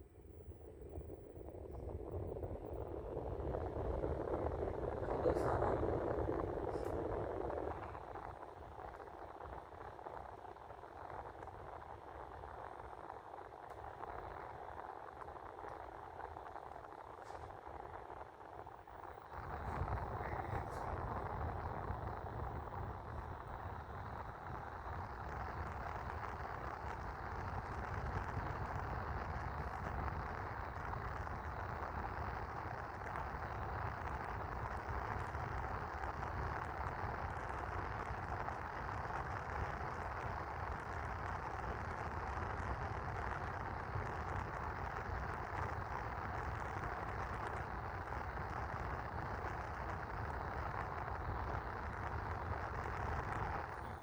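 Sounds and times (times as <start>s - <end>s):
air conditioner blower fan: 0.0s - 54.0s.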